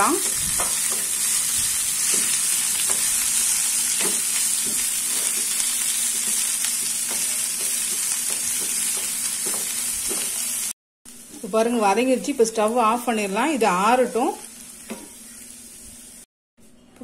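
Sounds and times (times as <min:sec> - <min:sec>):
leaves sizzling in hot oil: 0:00.0 - 0:16.3.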